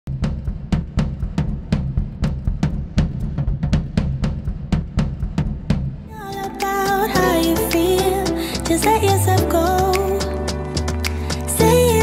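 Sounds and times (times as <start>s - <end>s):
drum-kit beat: 0.1s - 12.0s.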